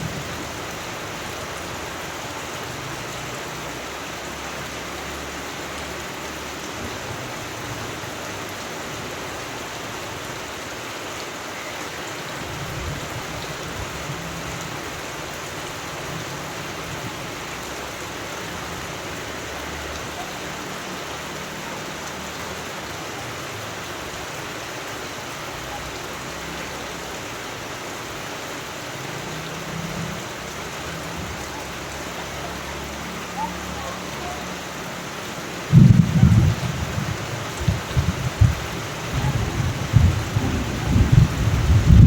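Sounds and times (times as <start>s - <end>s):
steady rainfall: 0.0s - 42.0s.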